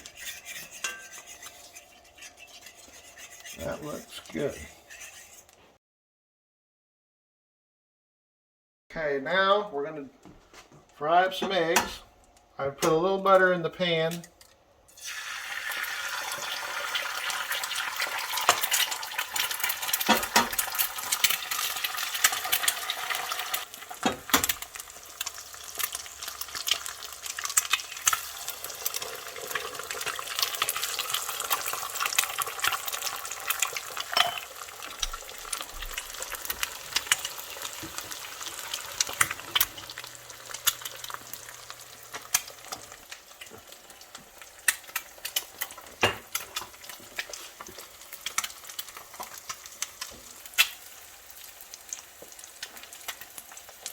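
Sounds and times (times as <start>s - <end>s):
eggs sizzling in a skillet: 0.0s - 5.6s, 14.9s - 53.9s.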